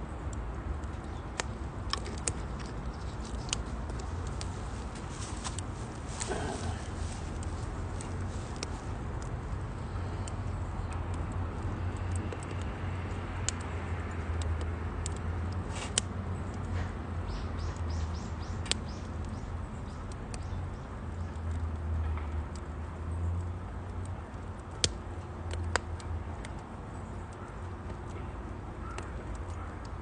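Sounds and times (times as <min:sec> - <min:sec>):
firewood crackling and popping: 0:00.2 - 0:30.0.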